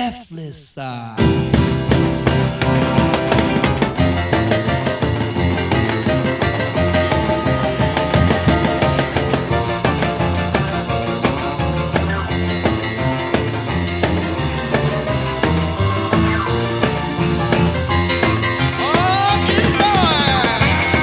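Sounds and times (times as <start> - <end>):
bending sliding lead notes: 1.2 - 21.0
instrumental rock and roll music: 1.2 - 21.0.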